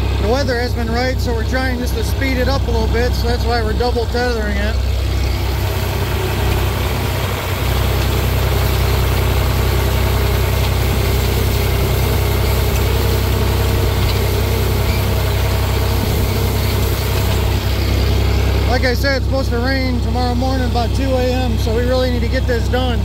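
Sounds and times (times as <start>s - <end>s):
tractor engine humming: 0.0s - 23.0s.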